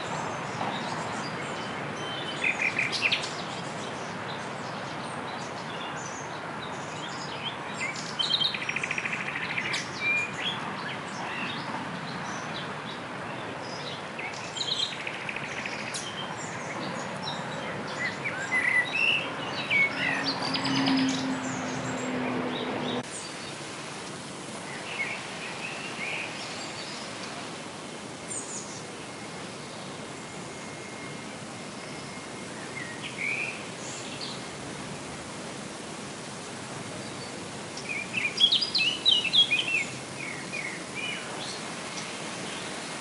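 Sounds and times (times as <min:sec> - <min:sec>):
wild birds singing and chirping: 0:00.0 - 0:23.7, 0:24.6 - 0:34.6, 0:36.8 - 0:43.0
steady outdoor hiss: 0:00.0 - 0:43.0.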